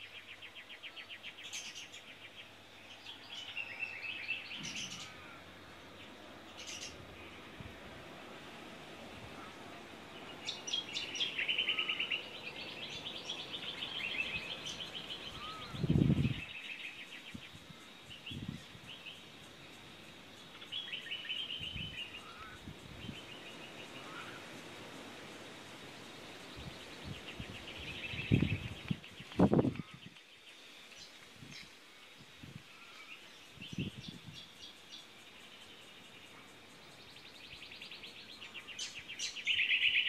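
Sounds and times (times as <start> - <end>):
birds chirping and trilling: 0.0 - 7.8, 9.2 - 24.6, 26.4 - 40.0.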